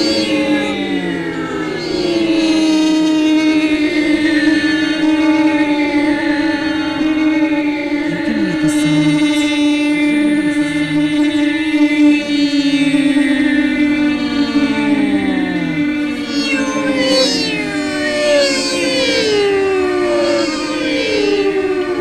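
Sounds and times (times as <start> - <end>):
chanting on a long held note: 0.0 - 22.0
layered tonal drone: 0.0 - 22.0.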